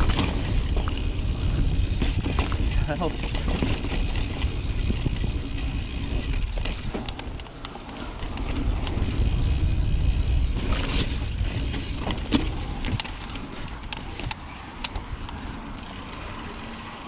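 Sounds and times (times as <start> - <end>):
tyres crunching over ground: 0.0 - 16.4
bike clicks and rattles: 0.0 - 17.0
wind buffeting microphone: 0.0 - 17.0.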